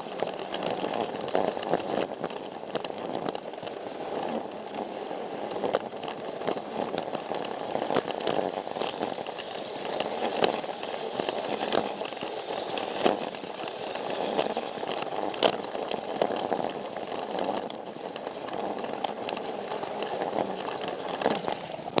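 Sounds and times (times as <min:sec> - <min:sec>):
toy train motor rattle: 0:00.0 - 0:22.0
wheels clicking over track joints: 0:00.0 - 0:22.0.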